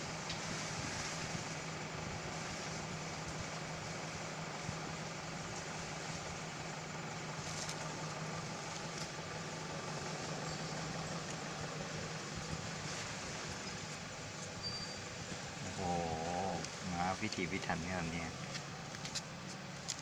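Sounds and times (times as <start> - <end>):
background hiss: 0.0 - 20.0
low mechanical hum: 0.0 - 20.0.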